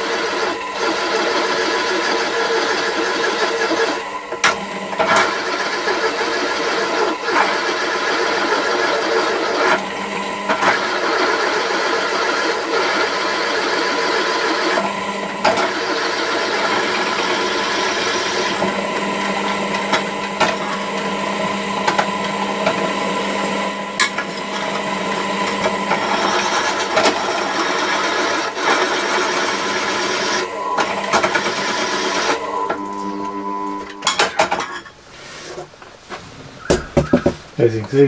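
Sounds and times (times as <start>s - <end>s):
drill bit grinding through metal: 0.0s - 35.0s
drill press motor running: 0.0s - 35.9s.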